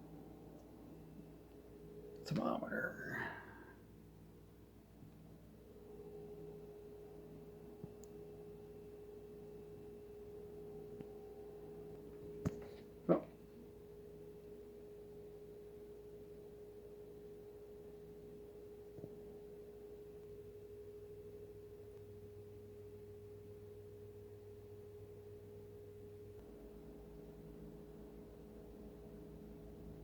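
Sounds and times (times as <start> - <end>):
hum with held tone: 0.0 - 30.0.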